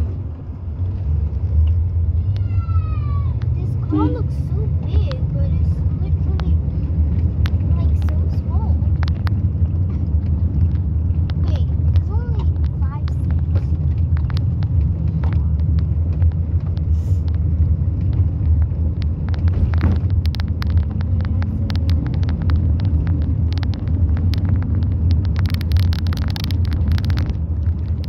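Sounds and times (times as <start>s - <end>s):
moving vehicle rumble: 0.0s - 28.0s
short rattles and clicks: 4.8s - 28.0s.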